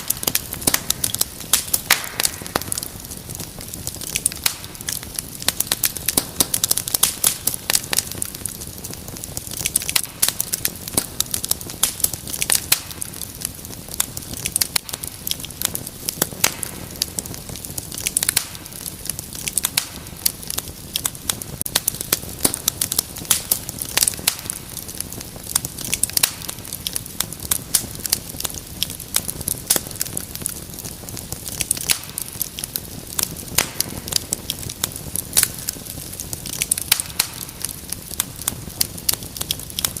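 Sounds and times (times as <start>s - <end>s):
low hiss of burning: 0.0s - 40.0s
wood fire crackling: 0.0s - 40.0s.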